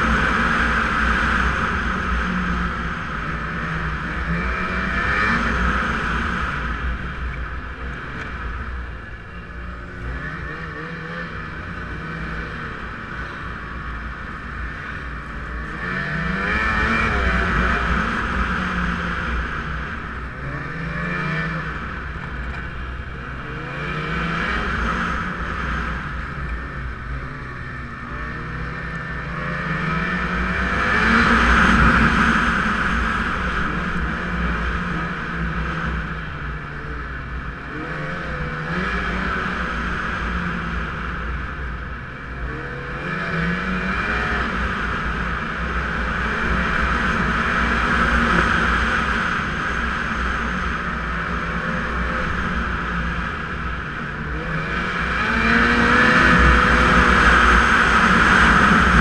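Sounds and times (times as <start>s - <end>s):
snowmobile engine revving: 0.0s - 59.0s
steady rushing noise: 0.0s - 59.0s.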